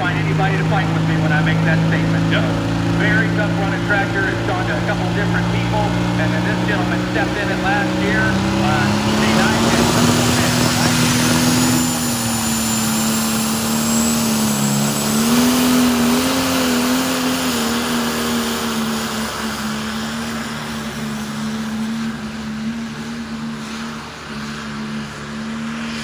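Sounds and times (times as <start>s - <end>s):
tractor diesel engine at high revs: 0.0s - 26.0s.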